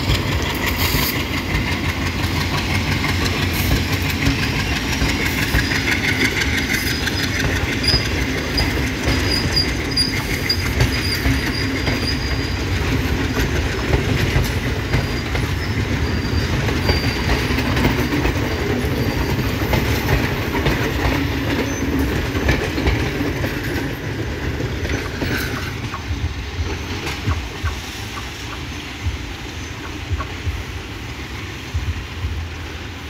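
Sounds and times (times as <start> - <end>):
train carriages rolling past: 0.0 - 33.0.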